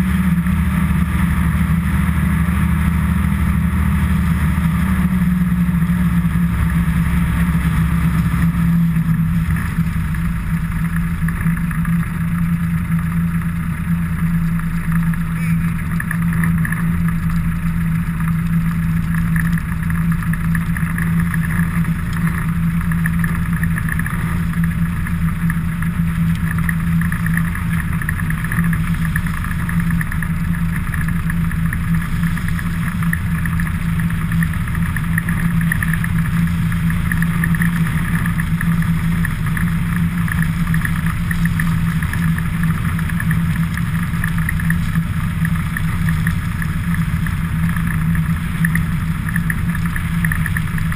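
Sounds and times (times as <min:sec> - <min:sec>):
motor vehicle drone: 0:00.0 - 0:50.9
road noise: 0:00.0 - 0:50.9.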